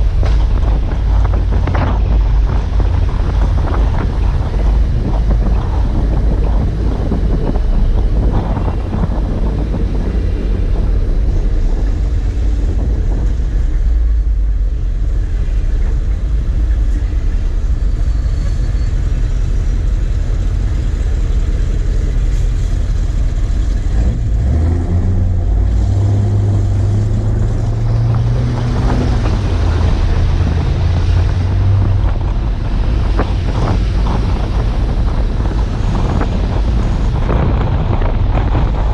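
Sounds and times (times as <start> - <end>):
heavy truck engine rumbling: 0.0 - 38.9
wind buffeting microphone: 0.0 - 38.9.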